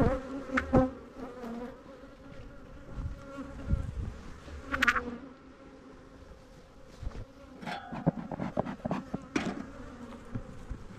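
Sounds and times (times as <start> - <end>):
bees buzzing: 0.0 - 10.9.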